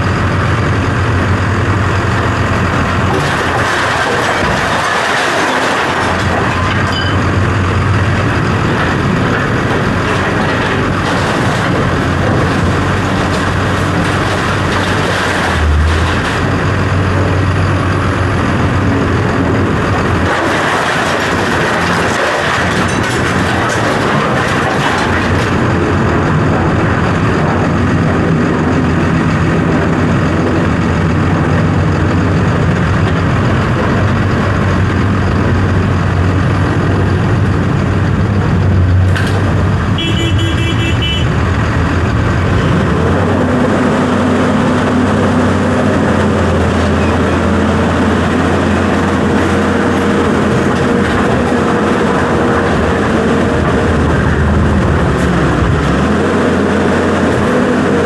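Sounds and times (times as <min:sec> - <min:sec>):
large engine running: 0:00.0 - 0:58.0.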